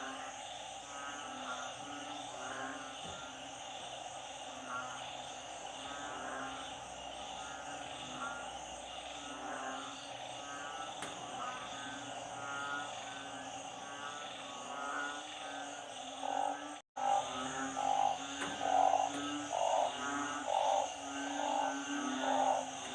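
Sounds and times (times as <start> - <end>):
chorus of frogs calling: 0.0 - 22.9.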